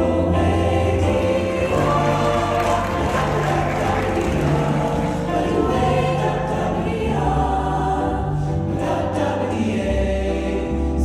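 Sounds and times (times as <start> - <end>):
vocal ensemble singing chords: 0.0 - 11.0.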